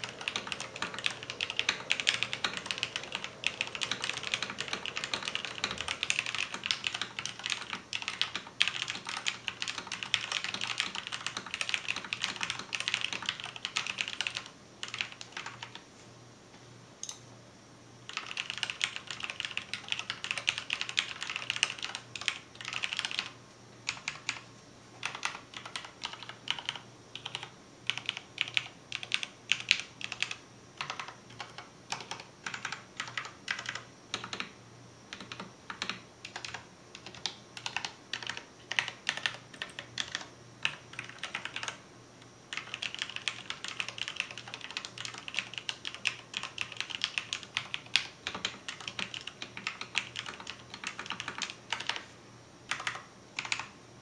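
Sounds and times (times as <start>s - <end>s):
mechanical keyboard typing: 0.0s - 15.8s, 18.1s - 41.8s, 42.5s - 52.1s, 52.7s - 53.8s.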